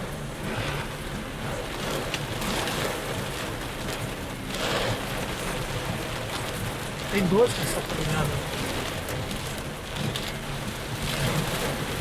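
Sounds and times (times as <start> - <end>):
heavy rain on a car: 0.0 - 12.0.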